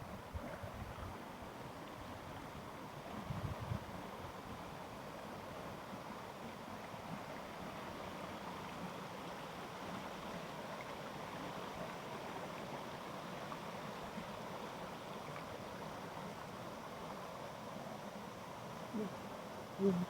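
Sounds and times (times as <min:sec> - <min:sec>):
stream flowing: 0:00.1 - 0:20.0.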